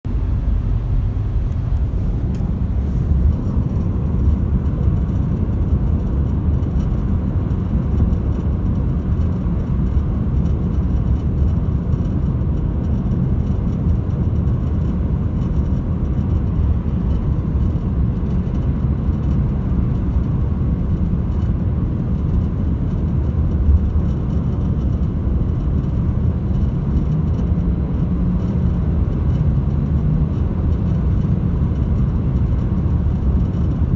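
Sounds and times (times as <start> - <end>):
road and wind rumble: 0.0 - 33.9.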